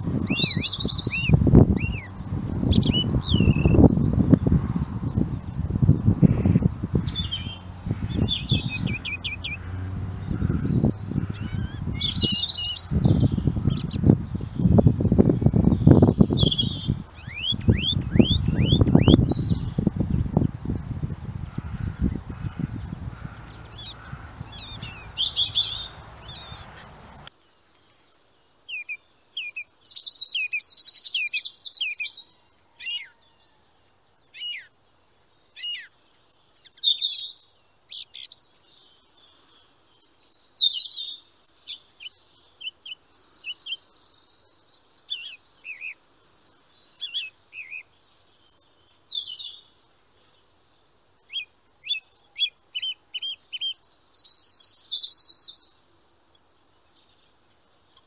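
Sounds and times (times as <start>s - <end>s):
outdoor background hiss and rumble: 0.0s - 58.0s
songbirds chirping and trilling: 0.0s - 58.0s.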